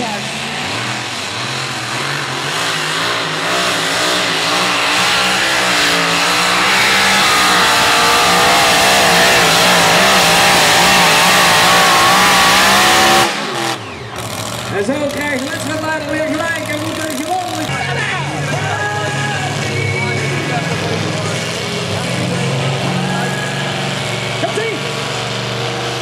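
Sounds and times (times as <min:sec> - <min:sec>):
supercharged engine at full throttle: 0:00.0 - 0:26.0.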